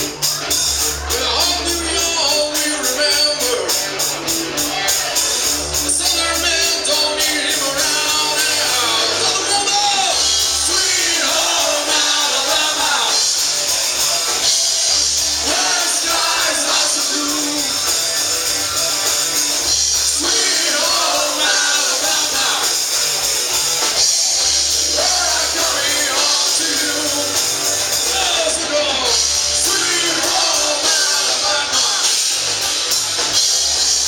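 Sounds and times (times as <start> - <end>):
live music with singer: 0.0 - 34.0.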